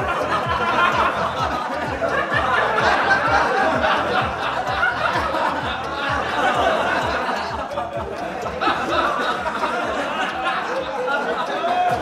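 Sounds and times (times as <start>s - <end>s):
crowd laughing loudly: 0.0s - 12.0s
dance music with steady beat: 0.0s - 12.0s.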